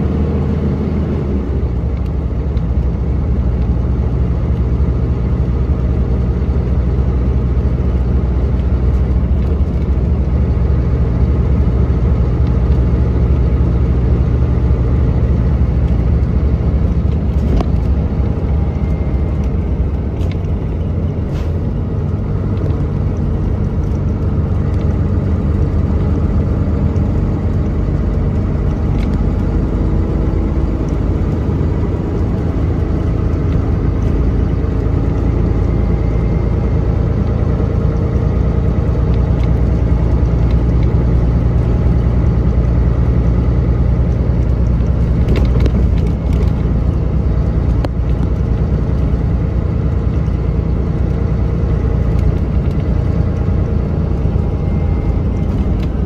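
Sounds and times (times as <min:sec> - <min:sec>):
bus body rattles and clicks: 0:00.0 - 0:56.0
bus engine droning: 0:00.0 - 0:56.0.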